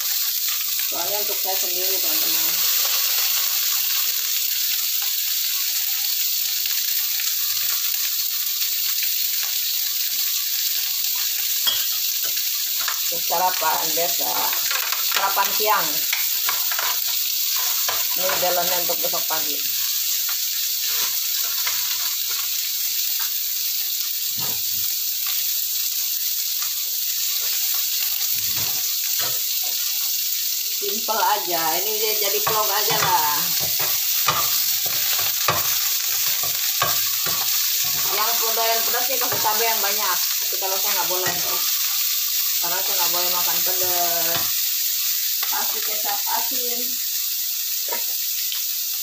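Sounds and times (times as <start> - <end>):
food sizzling in a wok: 0.0 - 49.0.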